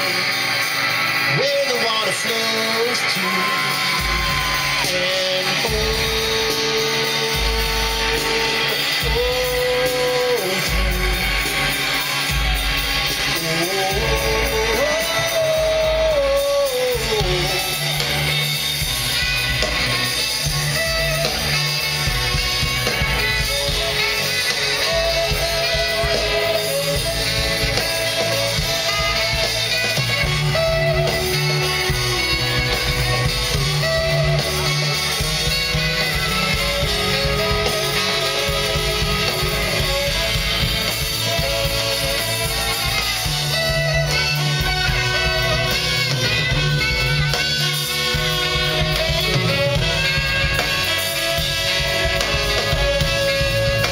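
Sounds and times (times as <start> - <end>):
horn section held notes: 0.0 - 53.9
live rock band playing: 0.0 - 53.9.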